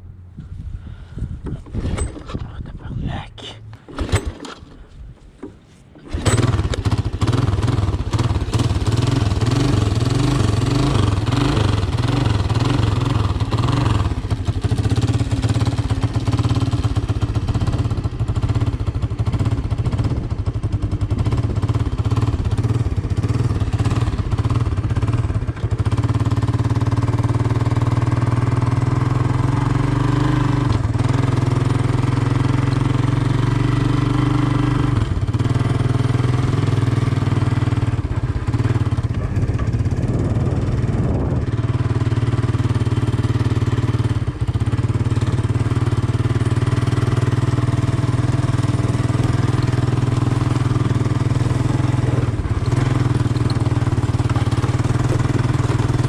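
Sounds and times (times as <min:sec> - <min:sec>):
single-cylinder engine running: 0:03.7 - 0:56.0.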